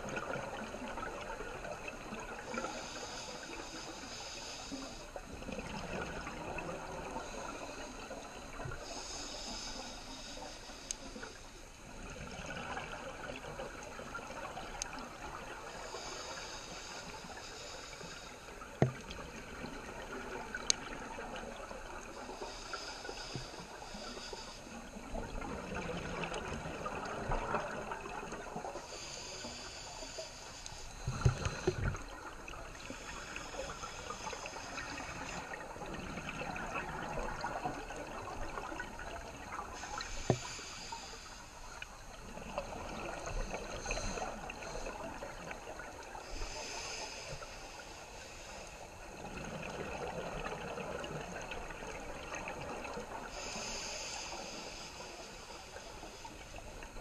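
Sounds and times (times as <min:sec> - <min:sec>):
underwater regulator breathing: 0:02.1 - 0:05.5, 0:06.2 - 0:11.7, 0:12.8 - 0:51.5, 0:52.3 - 0:57.0.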